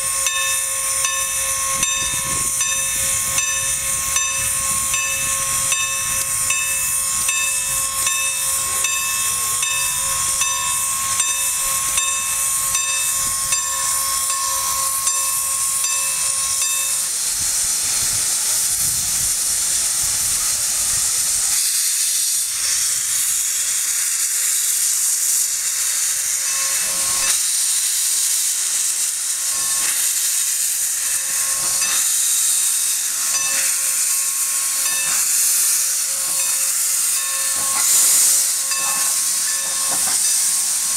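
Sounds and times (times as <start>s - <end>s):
steam blowing from cylinder cocks: 0.0s - 40.9s
steam locomotive hissing: 0.0s - 40.9s.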